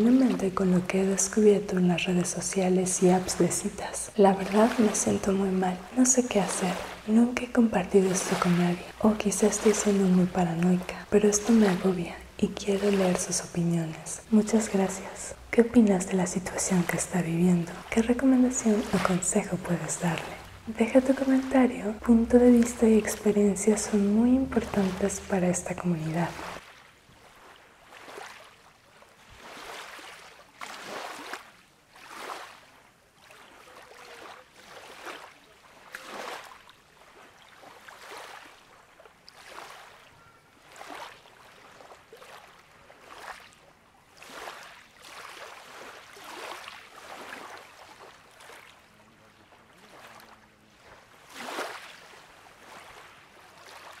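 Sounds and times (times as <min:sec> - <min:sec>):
small waves lapping: 0:00.0 - 0:54.0.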